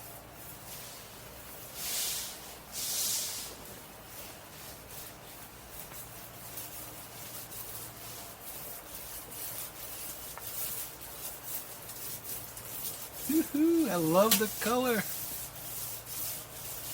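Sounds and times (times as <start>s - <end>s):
brush rubbing thick coating: 0.0s - 16.9s.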